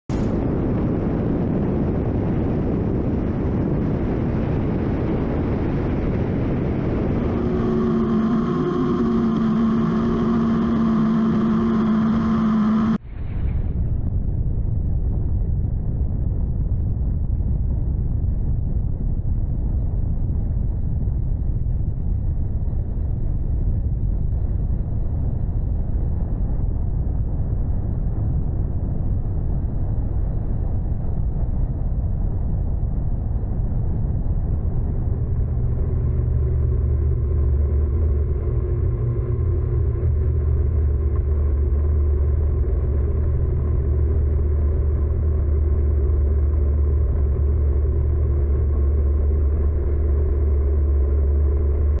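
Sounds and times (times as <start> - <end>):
low engine rumble: 0.0 - 52.0
droning hum with fixed tones: 0.1 - 52.0.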